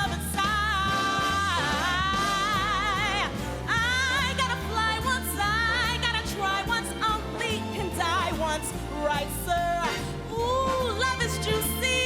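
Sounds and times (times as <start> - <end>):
live band playing: 0.0 - 12.0
woman singing: 0.0 - 12.0.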